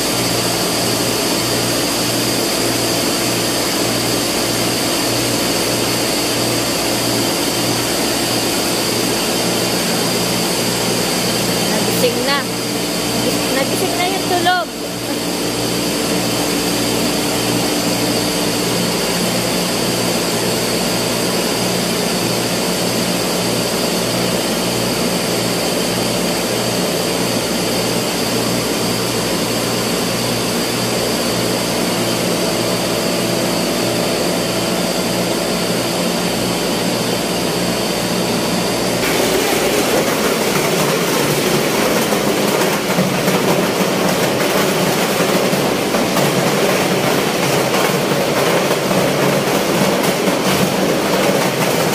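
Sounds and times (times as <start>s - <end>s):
rough noisy machine sound: 0.0s - 51.9s.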